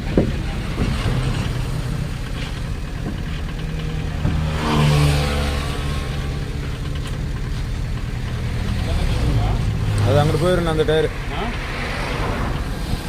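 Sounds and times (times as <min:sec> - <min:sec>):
vehicle engine running and revving: 0:00.0 - 0:13.0.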